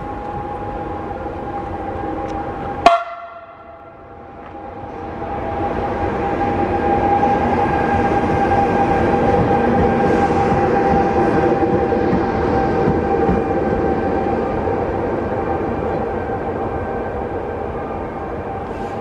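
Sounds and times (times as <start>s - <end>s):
train whining and rumbling: 0.0s - 19.0s.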